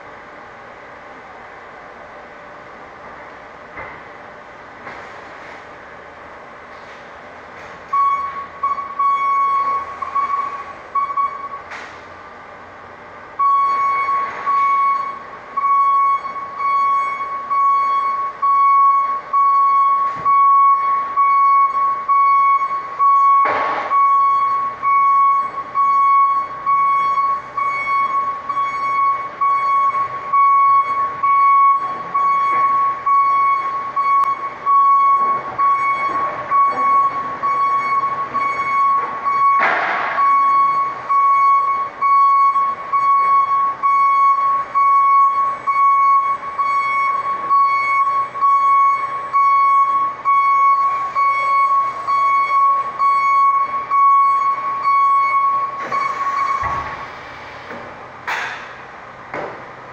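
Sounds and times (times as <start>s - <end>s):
forklift reversing alarm beeping: 7.8s - 11.9s, 13.4s - 57.7s.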